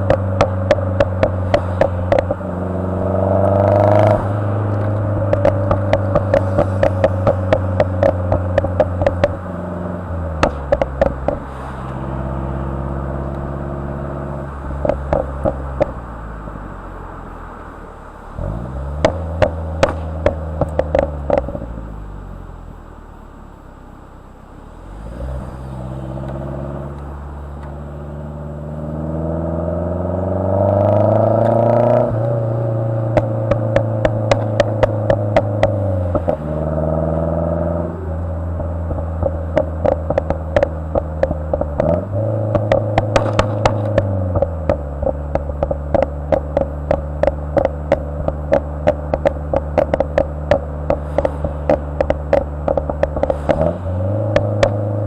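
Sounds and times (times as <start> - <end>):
exhaust pops and crackles: 0.0 - 17.4, 18.2 - 22.5, 24.3 - 55.0
car engine revving: 0.0 - 55.0.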